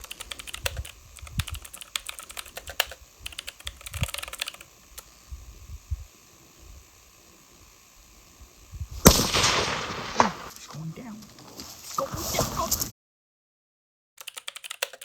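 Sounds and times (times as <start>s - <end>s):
rapid light clicking: 0.0s - 11.4s, 14.2s - 15.0s.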